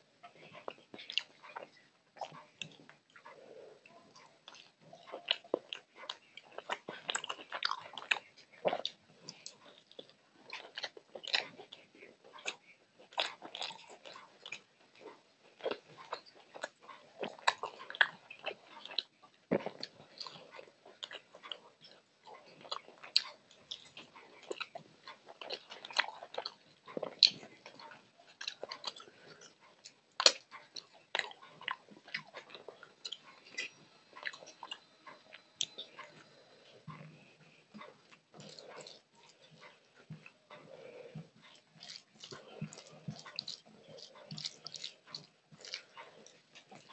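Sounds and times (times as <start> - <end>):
chewing with mouth clicks: 0.0 - 46.9.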